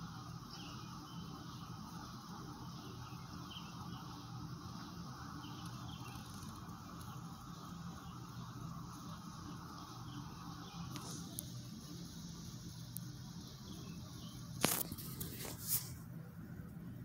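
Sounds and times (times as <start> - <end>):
soft background hiss: 0.0 - 17.0
steady low hum: 0.0 - 17.0.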